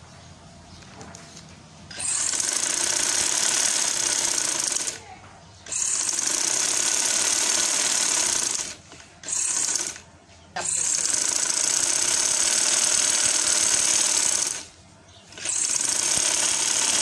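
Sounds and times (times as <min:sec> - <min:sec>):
sewing machine rattling: 0:01.9 - 0:05.0, 0:05.6 - 0:10.0, 0:10.6 - 0:17.0.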